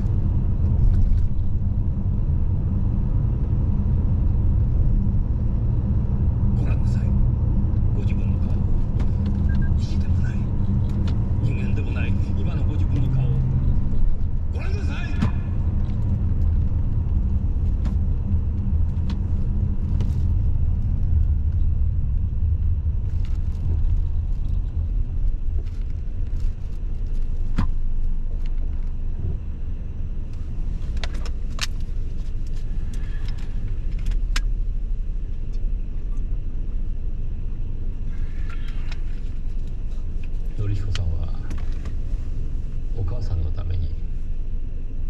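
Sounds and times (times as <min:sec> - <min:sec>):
road and engine rumble: 0:00.0 - 0:45.0.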